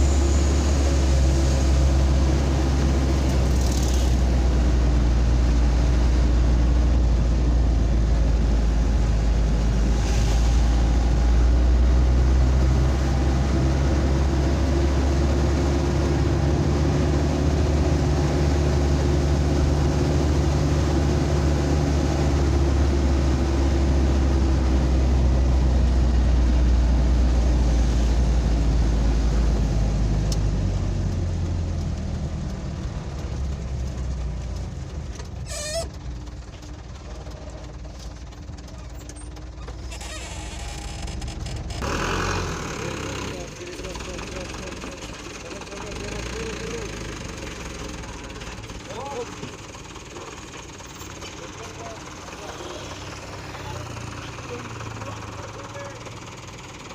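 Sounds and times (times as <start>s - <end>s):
road noise: 0.0s - 56.9s
vehicle engine drone: 0.0s - 56.9s.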